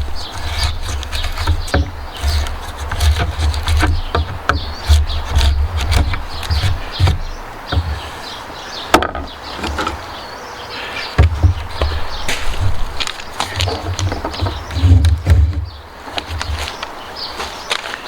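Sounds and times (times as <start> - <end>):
knocks and taps on timber: 0.3 - 8.2, 8.9 - 10.0, 11.2 - 16.7.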